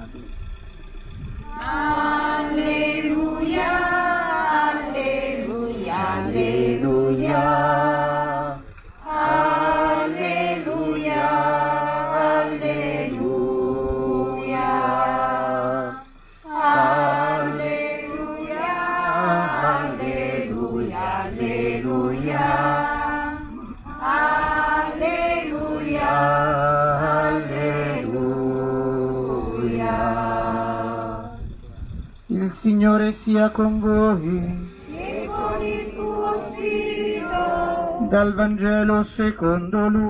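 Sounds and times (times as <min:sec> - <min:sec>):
church choir singing: 0:01.5 - 0:31.6, 0:32.3 - 0:40.0.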